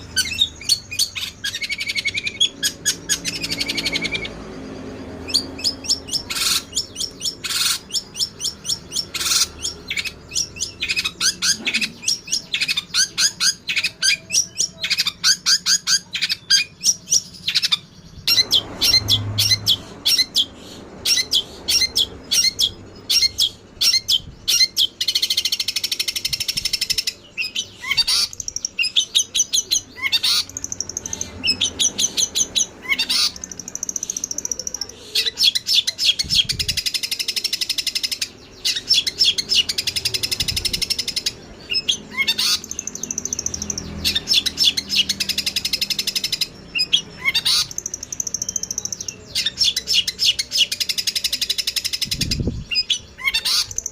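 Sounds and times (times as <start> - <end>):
sparrows chirping: 0.0 - 53.9.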